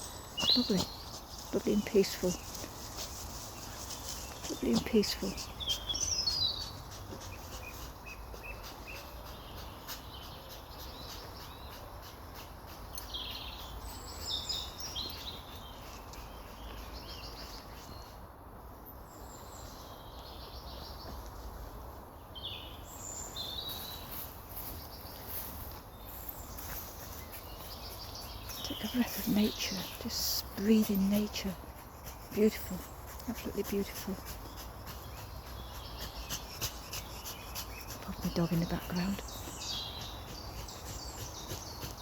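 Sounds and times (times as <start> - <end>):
songbirds singing: 0.0 - 42.0.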